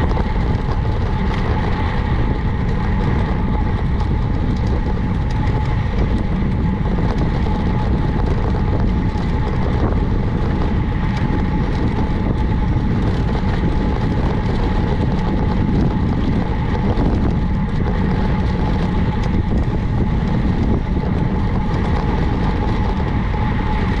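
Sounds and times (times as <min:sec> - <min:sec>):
thin whine: 0:00.0 - 0:24.0
wind rumble on microphone: 0:00.0 - 0:24.0.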